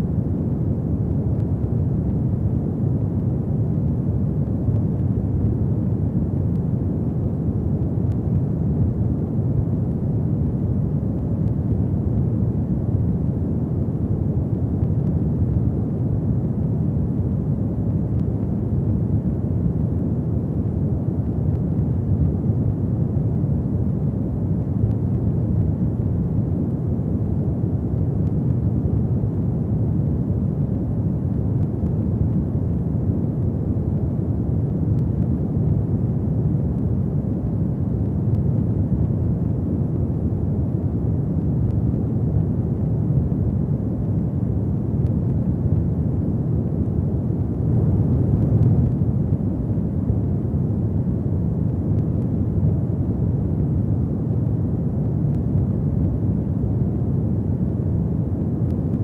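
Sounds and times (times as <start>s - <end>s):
faint fire crackles: 0.0s - 59.0s
low rumble of flames: 0.0s - 59.0s.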